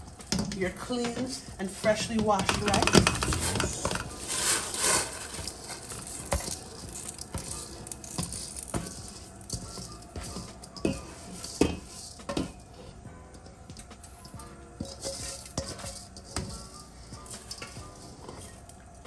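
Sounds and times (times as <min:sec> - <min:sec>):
hand scraping metal bowl: 0:00.0 - 0:19.0
metal bowl clinking on pot: 0:00.3 - 0:18.7.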